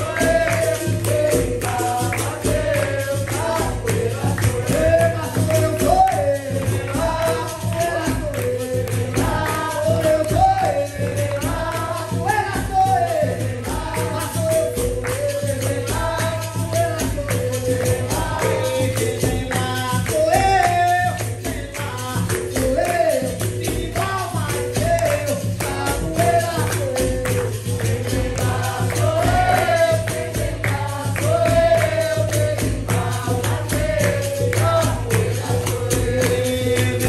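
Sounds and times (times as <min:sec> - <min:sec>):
tambourine and percussion: 0:00.0 - 0:37.0.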